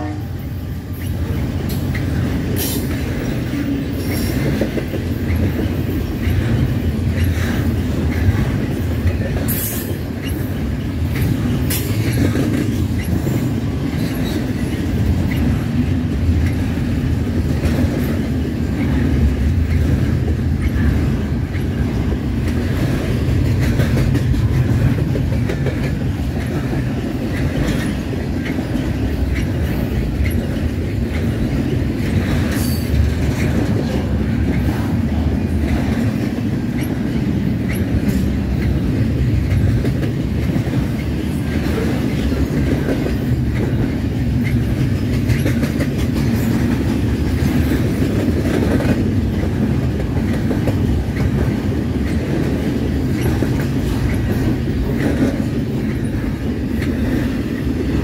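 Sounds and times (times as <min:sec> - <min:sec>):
steel wheels rumbling on rails: 0:00.0 - 0:58.0
wheels clicking over rail joints: 0:00.8 - 0:58.0.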